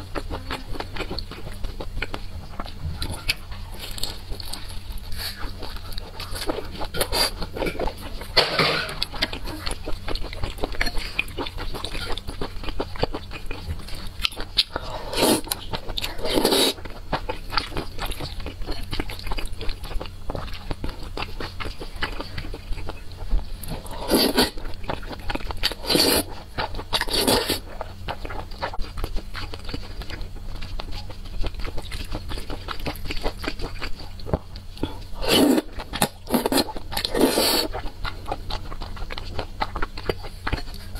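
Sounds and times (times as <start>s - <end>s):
wet chewing: 0.0s - 40.9s.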